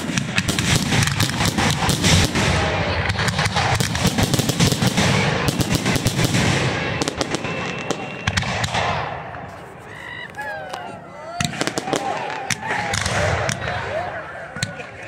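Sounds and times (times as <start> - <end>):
fireworks bursting: 0.0 - 9.8, 11.4 - 14.0.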